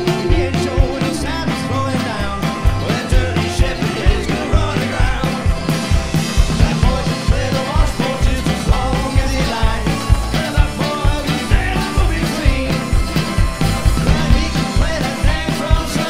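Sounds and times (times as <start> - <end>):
banjo: 0.0 - 16.0
guitar: 0.0 - 16.0
steady low beat: 0.0 - 16.0
strummed acoustic guitar: 0.0 - 16.0.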